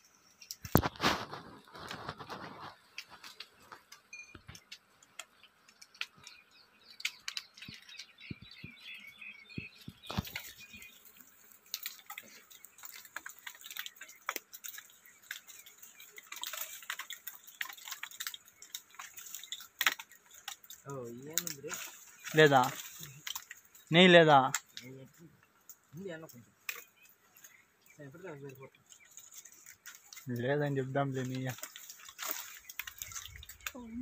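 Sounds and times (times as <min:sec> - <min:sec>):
branches cracking and rustling: 0:00.0 - 0:34.0
bird chirps: 0:03.4 - 0:34.0.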